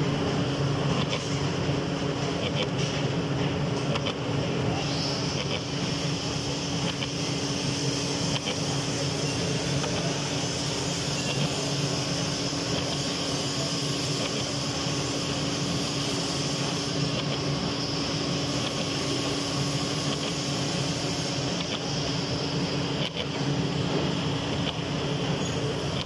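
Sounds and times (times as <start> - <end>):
milling machine humming: 0.0 - 26.0
coolant hiss: 4.6 - 26.0.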